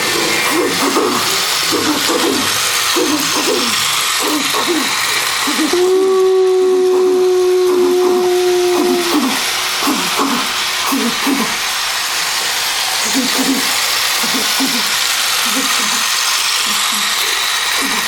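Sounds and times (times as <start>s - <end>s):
high-pitched voices talking: 0.0s - 11.6s, 13.0s - 18.0s.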